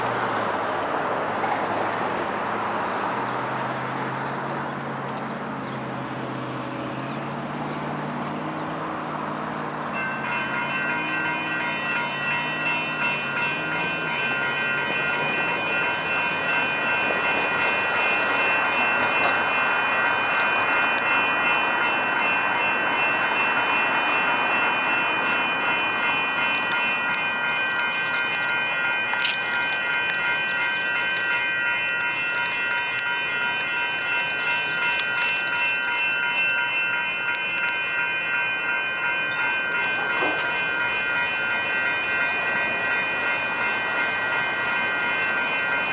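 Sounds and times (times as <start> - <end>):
crossing warning bells ringing: 0.0 - 45.9
road traffic passing: 0.0 - 45.9.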